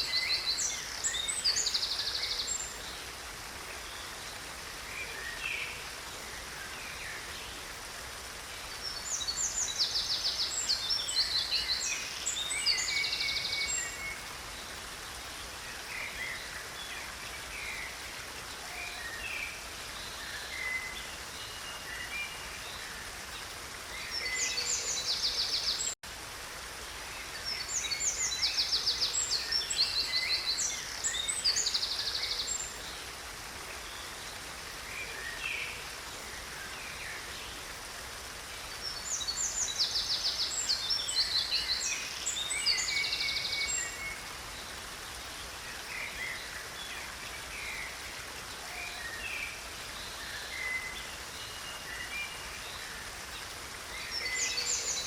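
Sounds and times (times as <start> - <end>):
songbirds singing: 0.0 - 55.0
stream running: 0.0 - 55.0.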